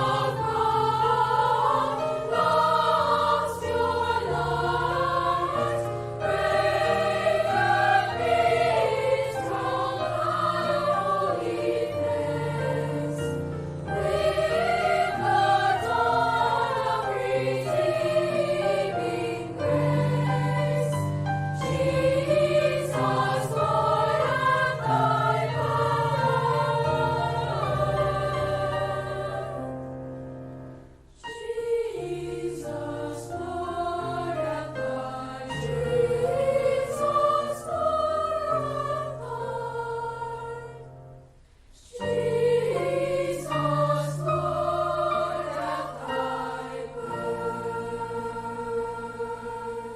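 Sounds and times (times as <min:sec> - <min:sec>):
choir singing sustained chords: 0:00.0 - 0:49.9.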